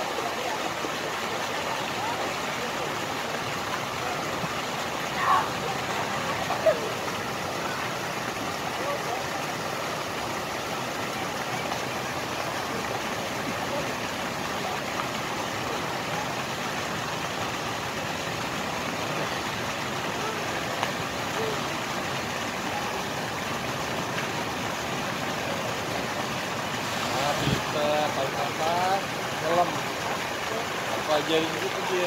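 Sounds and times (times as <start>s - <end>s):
water pouring into pool: 0.0s - 32.0s.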